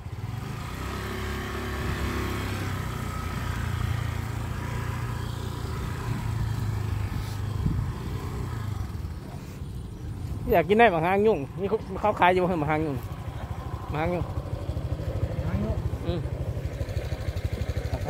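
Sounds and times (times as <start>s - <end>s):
motor scooter engine running: 0.0s - 18.0s.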